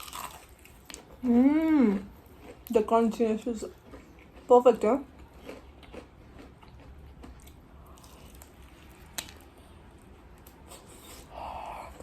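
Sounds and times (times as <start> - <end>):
chewing crispy food: 0.0 - 12.0.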